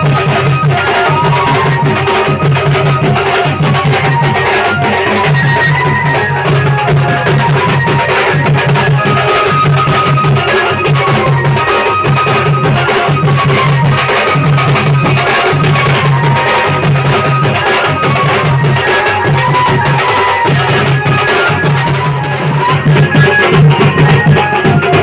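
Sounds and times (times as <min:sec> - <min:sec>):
barrel drums beaten with sticks: 0:00.0 - 0:25.0
hand cymbals: 0:00.0 - 0:25.0
high held melody: 0:00.0 - 0:25.0.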